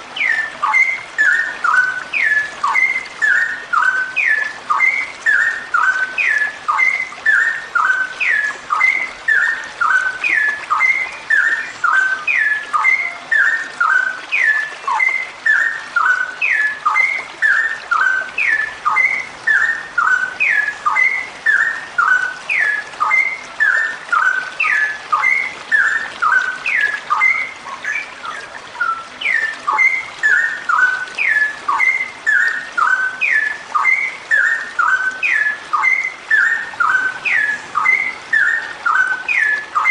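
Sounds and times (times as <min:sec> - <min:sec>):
bird calling with whistled notes: 0:00.0 - 0:39.9.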